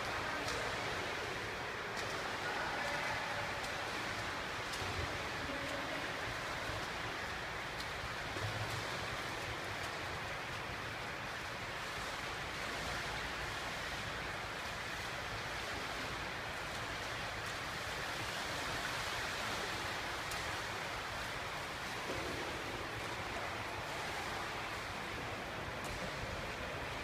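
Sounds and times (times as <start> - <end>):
water lapping in pool: 0.0 - 27.0.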